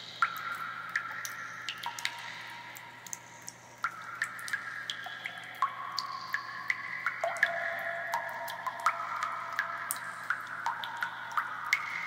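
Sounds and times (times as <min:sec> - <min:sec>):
water drops plinking: 0:00.0 - 0:12.0.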